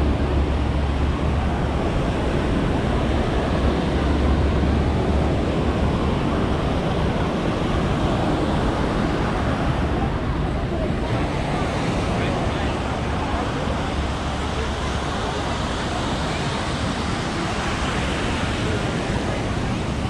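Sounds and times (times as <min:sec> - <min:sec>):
surf washing onto beach: 0:00.0 - 0:20.0
wind buffeting microphone: 0:00.0 - 0:20.0.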